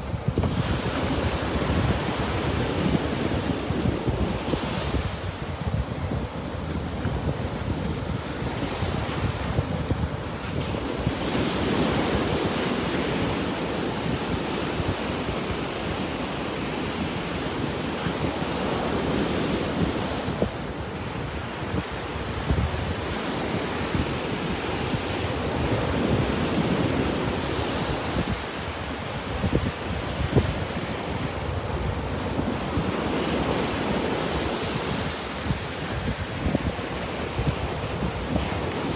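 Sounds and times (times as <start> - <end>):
surf breaking on sand: 0.0 - 38.9
wind buffeting microphone: 0.0 - 38.9.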